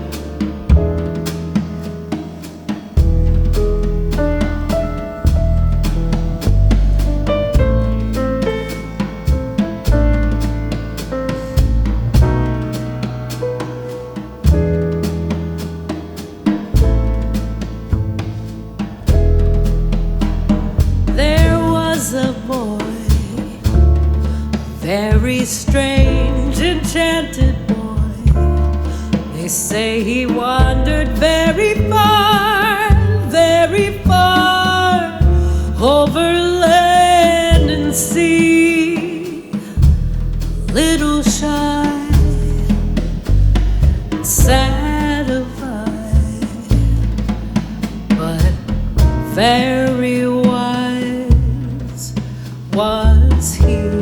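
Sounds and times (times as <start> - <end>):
acoustic bass: 0.0 - 54.0
drums: 0.0 - 54.0
piano: 0.0 - 54.0.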